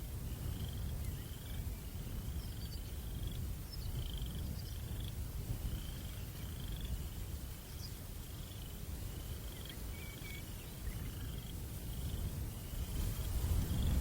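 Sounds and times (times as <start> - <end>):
wind buffeting microphone: 0.0 - 14.0
cricket chirping: 0.1 - 14.0.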